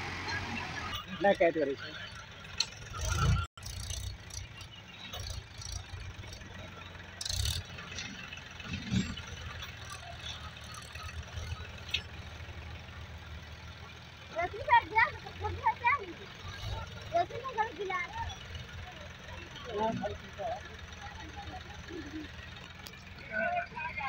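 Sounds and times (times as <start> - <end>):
tractor diesel engines idling: 0.0 - 24.0.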